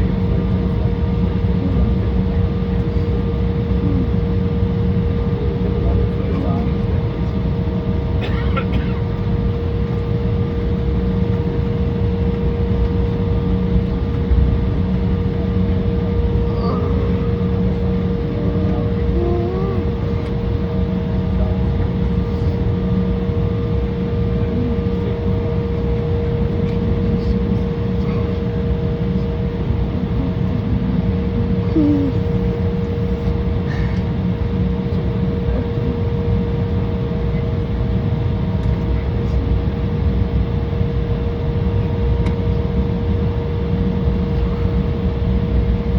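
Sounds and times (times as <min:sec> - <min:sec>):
jet engine cabin rumble: 0:00.0 - 0:45.9.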